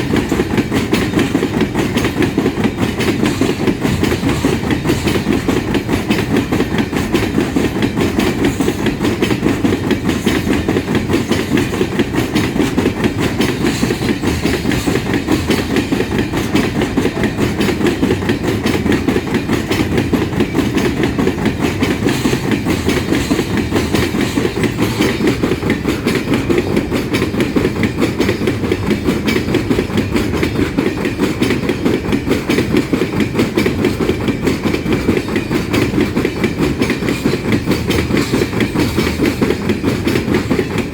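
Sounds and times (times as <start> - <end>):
freight wagon wheels clattering: 0.0 - 40.9.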